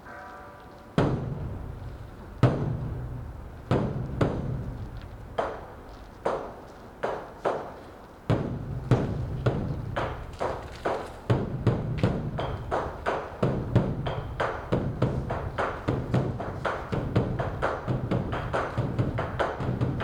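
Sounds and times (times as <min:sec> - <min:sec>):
large drum beaten with sticks: 0:01.0 - 0:06.5, 0:08.3 - 0:20.0.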